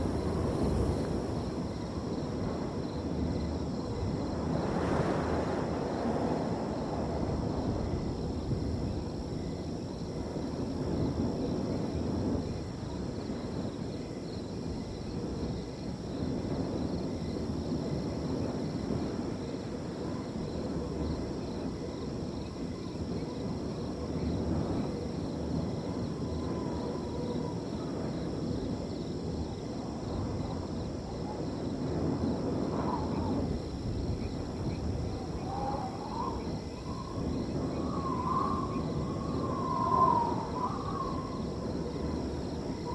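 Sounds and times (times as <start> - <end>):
crickets trilling: 0.0 - 42.9
wind blowing in gusts: 0.0 - 42.9.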